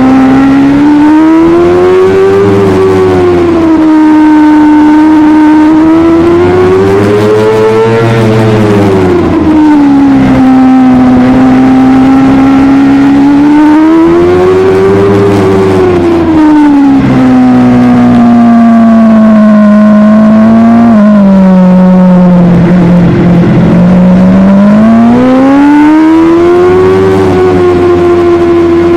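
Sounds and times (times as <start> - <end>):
motorcycle engine revving high: 0.0 - 28.9.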